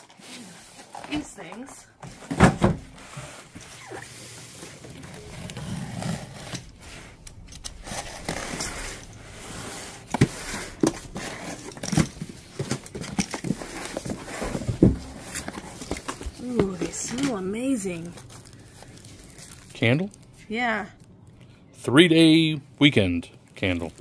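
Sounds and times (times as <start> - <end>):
packaging rustling and scraping: 0.0 - 20.7.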